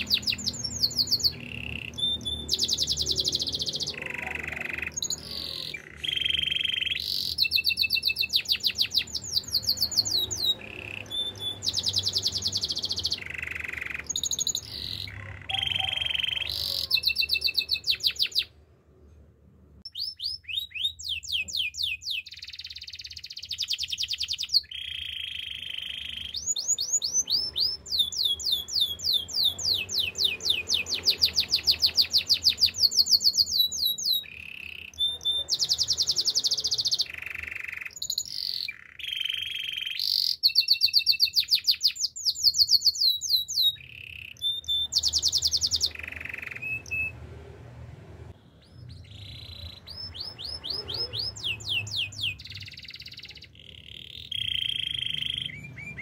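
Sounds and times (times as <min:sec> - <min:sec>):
canary singing trills: 0:00.0 - 0:18.7, 0:19.8 - 0:47.4, 0:48.3 - 0:56.0.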